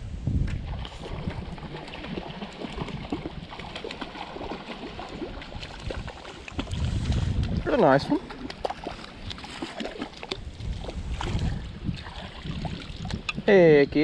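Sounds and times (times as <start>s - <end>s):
flowing stream: 0.5s - 14.0s
fish splashing in shallow water: 0.6s - 13.3s.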